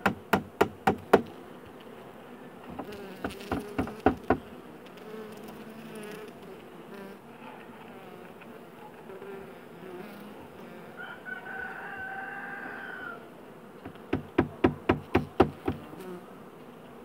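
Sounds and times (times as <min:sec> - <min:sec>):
honeybee colony humming: 0:00.0 - 0:17.0
queen bee piping high tone: 0:00.9 - 0:07.2, 0:08.8 - 0:17.0.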